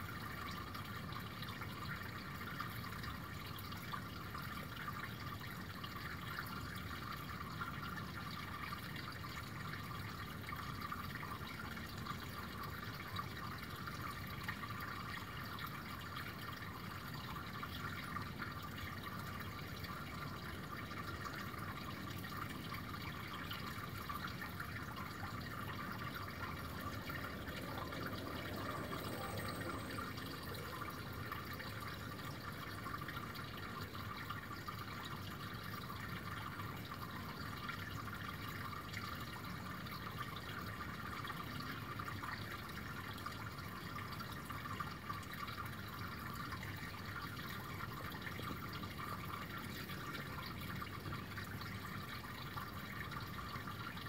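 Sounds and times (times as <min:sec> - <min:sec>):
brook trickling and splashing: 0:00.0 - 0:54.0.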